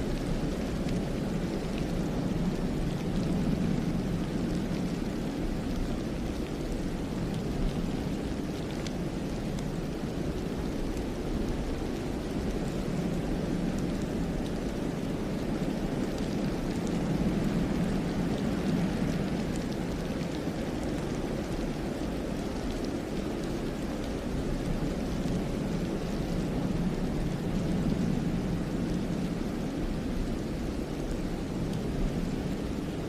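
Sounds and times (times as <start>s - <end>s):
wind through pine trees: 0.0s - 33.0s.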